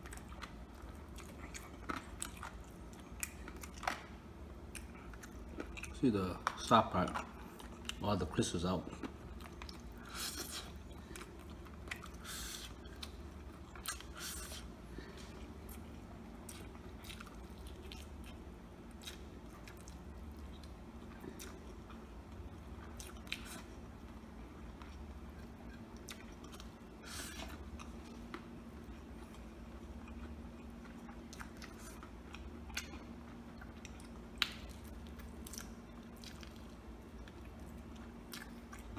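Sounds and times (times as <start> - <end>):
person chewing fried chicken: 0.0 - 38.9.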